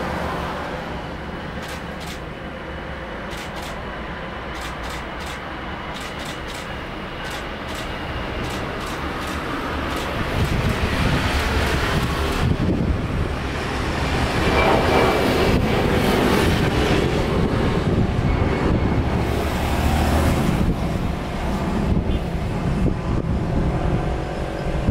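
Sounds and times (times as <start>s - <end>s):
jet airliner engines roaring: 0.0s - 24.9s
wind buffeting microphone: 3.4s - 24.9s.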